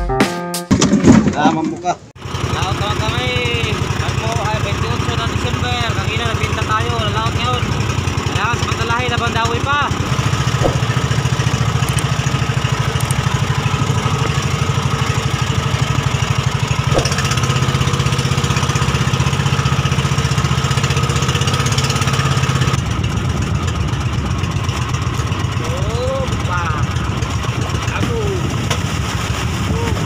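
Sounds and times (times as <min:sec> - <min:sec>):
boat engine puttering: 0:01.3 - 0:30.0.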